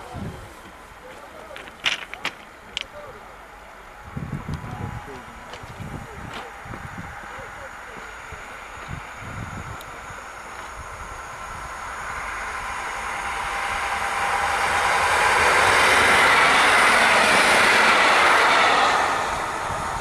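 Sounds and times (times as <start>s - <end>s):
train rolling on rails: 0.0s - 20.0s.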